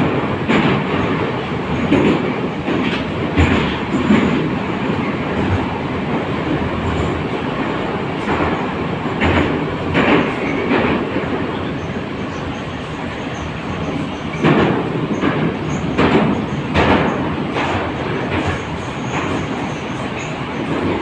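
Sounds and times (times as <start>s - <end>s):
metro car rumble and rush: 0.0s - 21.0s.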